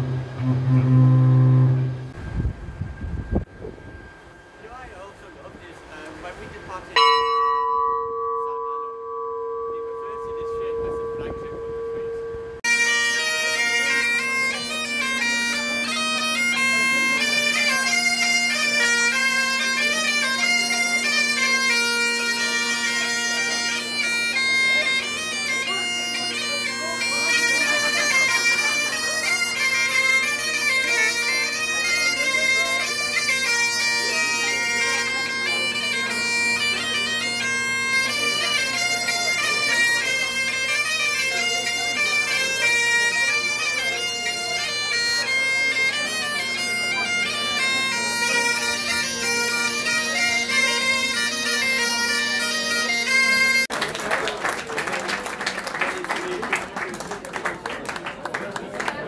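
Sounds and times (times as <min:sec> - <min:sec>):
bagpipes playing: 0:00.0 - 0:02.2, 0:05.8 - 0:53.8.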